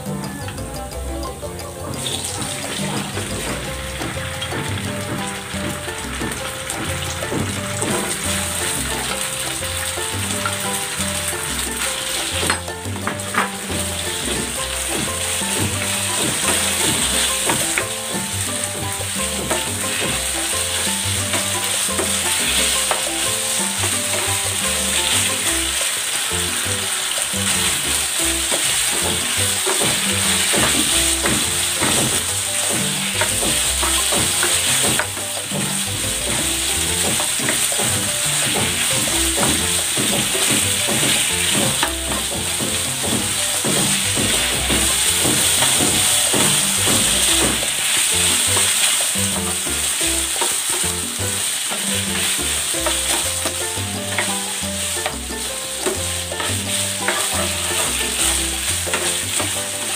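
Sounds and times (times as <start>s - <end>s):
chicken sizzling in hot oil: 0.0s - 59.9s
spatula scraping a pan: 2.0s - 59.9s.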